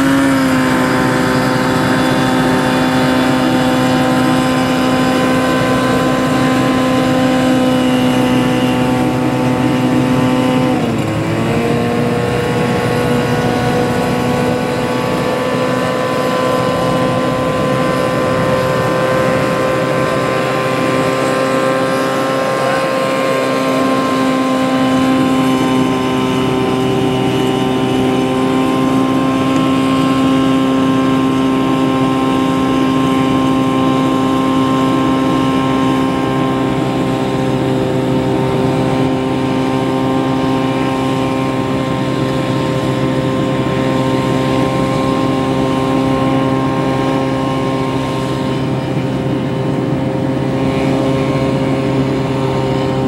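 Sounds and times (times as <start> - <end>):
hovercraft engine and fan running: 0.0 - 53.0.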